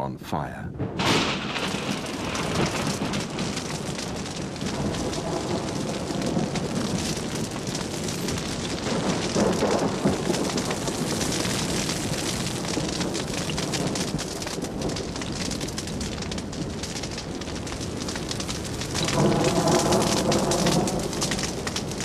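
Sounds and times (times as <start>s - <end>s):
fire crackling: 0.8s - 22.0s
rushing hiss of flames: 1.0s - 22.0s.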